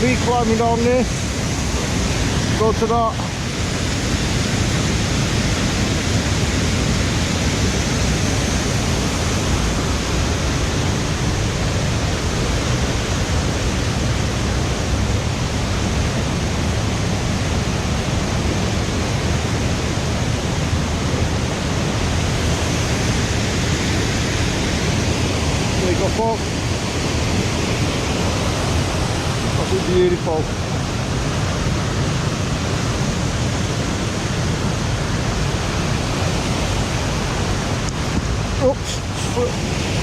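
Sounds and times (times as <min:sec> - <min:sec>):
river roaring over waterfall: 0:00.0 - 0:40.0.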